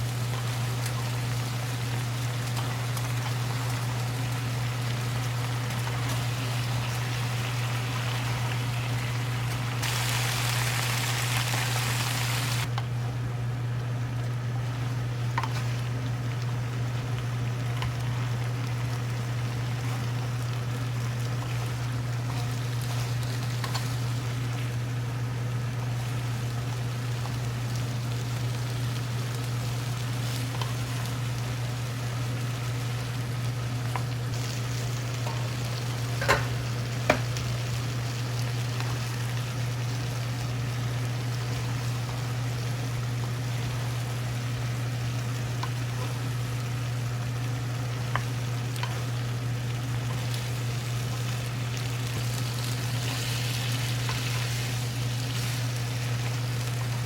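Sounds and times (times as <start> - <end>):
food sizzling in a frying pan: 0.0 - 12.7, 13.5 - 57.0
steady low hum: 0.0 - 57.0.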